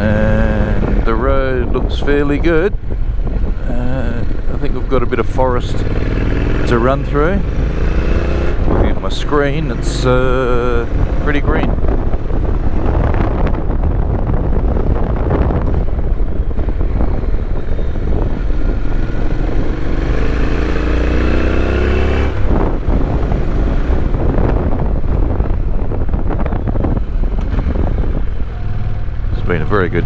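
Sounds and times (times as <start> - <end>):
wind noise on microphone: 0.0 - 30.0
motorcycle engine running: 2.7 - 30.0.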